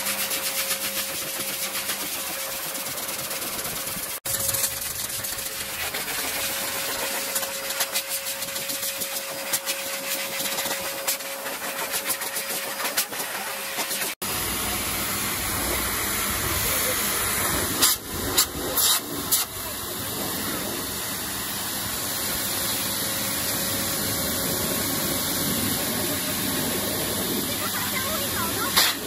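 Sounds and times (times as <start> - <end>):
pet dryer blowing air: 0.0 - 29.0.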